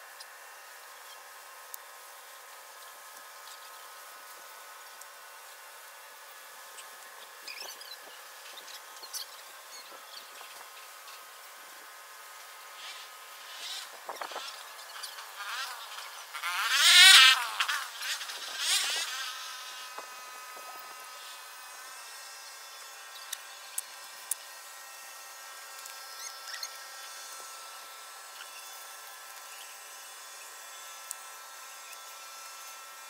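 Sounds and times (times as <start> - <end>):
high insect drone: 0.1 - 33.0
insect buzzing past: 0.3 - 33.0.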